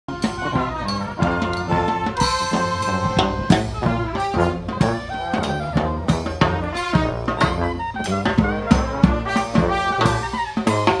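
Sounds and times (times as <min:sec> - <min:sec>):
brass band playing: 0:00.1 - 0:11.0
sousaphone bass line: 0:00.2 - 0:11.0.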